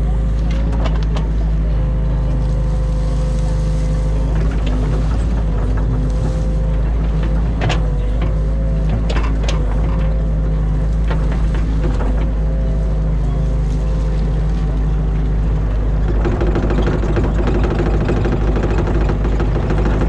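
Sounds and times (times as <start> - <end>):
excavator diesel engine running: 0.0 - 20.0
steady whine: 0.0 - 20.0.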